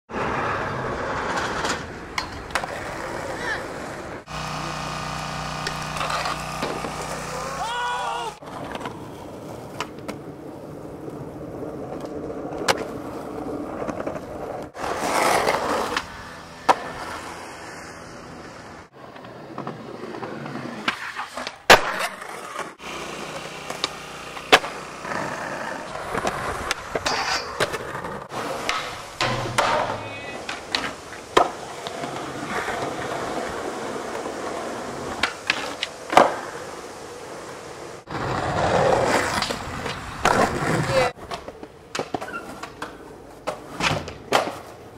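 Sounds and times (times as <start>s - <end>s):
skateboard wheels rolling on concrete: 0.1s - 44.9s
skateboards popping and landing: 0.1s - 44.9s.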